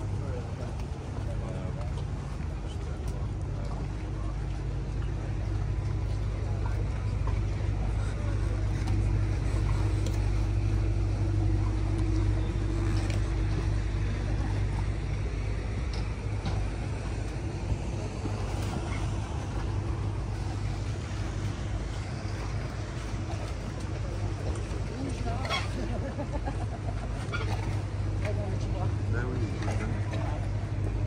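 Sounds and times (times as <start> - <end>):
machinery humming: 0.0 - 31.0.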